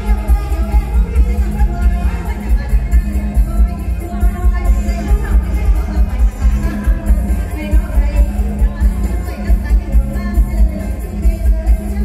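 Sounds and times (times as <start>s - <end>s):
heavy bass drum beat: 0.0s - 12.0s
live band music: 0.0s - 12.0s.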